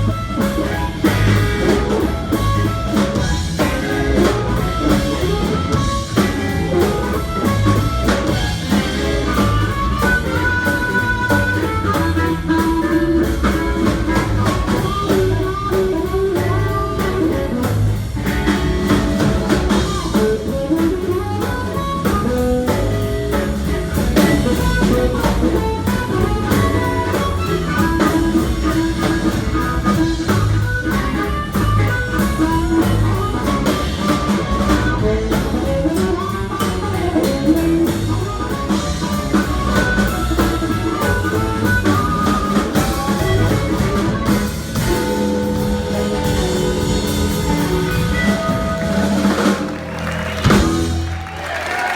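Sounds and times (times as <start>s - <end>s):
blues band playing: 0.0s - 51.9s
drum kit beat: 0.0s - 51.9s
guitar: 0.0s - 51.9s.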